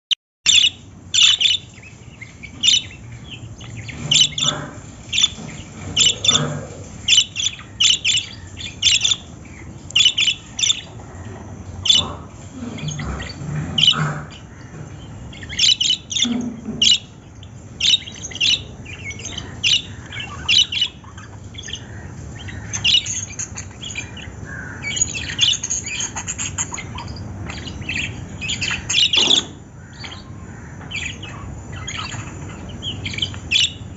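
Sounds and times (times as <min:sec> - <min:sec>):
parrots chirping and squawking: 0:00.5 - 0:33.9.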